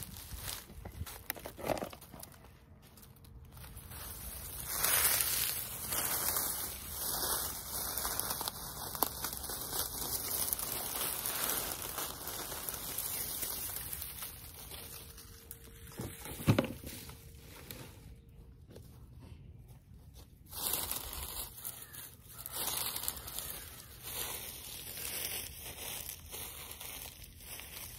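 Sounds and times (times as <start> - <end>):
dry plant stalks rustling and crackling: 0.0 - 18.4, 20.1 - 27.9.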